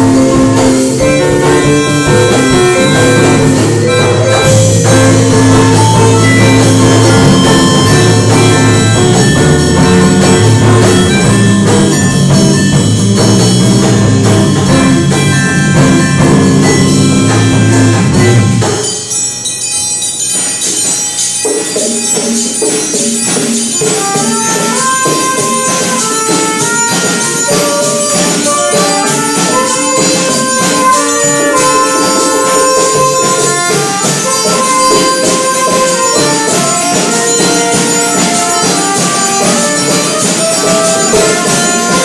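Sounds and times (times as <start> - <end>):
live band playing: 0.0 - 42.0.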